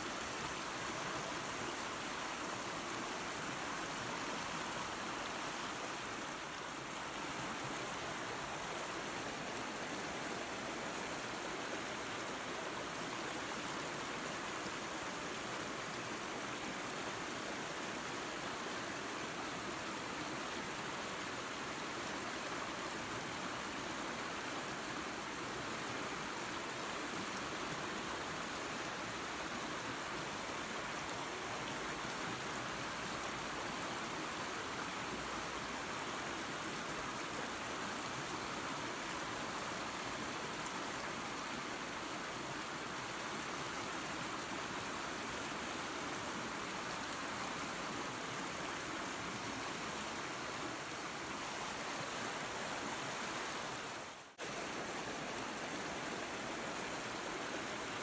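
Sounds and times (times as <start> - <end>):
waterfall and creek flowing: 0.0 - 58.0.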